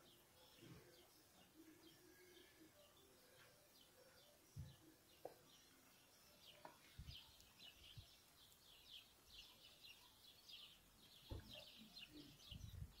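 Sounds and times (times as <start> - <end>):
faint rapid bird chirping: 0.0 - 13.0.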